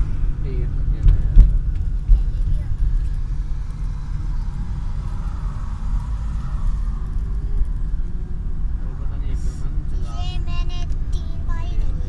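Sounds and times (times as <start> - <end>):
oncoming car passing: 0.0 - 12.0
road and engine rumble in car: 0.0 - 12.0.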